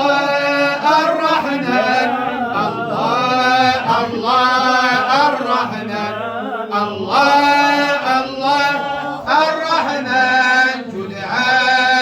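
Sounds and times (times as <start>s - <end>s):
man chanting religious song: 0.0s - 12.0s.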